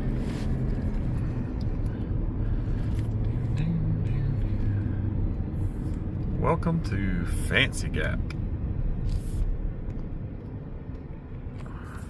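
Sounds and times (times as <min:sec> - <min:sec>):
road and engine noise in cabin: 0:00.0 - 0:12.0.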